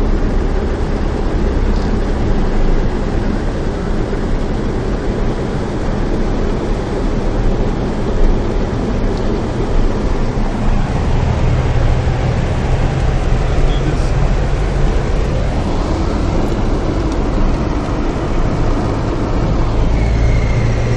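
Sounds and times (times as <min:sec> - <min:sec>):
heavy rain on car roof: 0:00.2 - 0:19.8.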